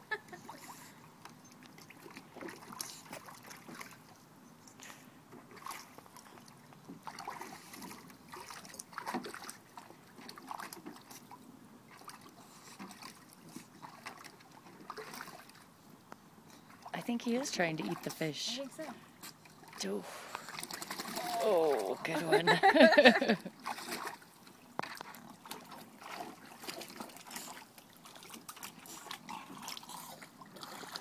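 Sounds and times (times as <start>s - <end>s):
water splashing in shallow pool: 0.0s - 4.2s, 5.4s - 15.9s, 16.6s - 31.0s.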